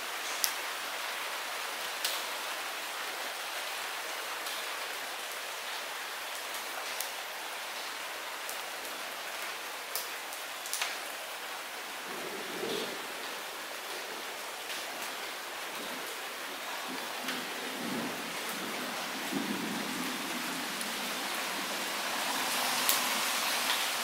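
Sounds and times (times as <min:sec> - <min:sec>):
light rain hiss: 0:00.0 - 0:24.0.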